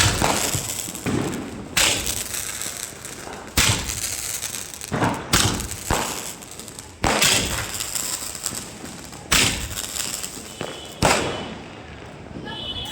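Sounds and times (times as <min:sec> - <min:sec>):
firecrackers banging: 0:00.0 - 0:12.9.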